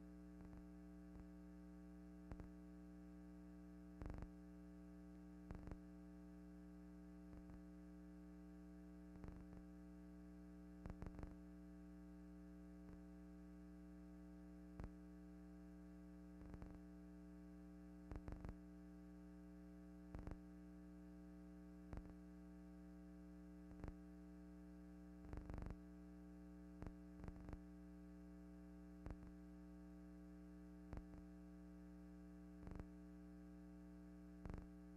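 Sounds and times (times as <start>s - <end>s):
steady electrical hum: 0.0s - 34.9s.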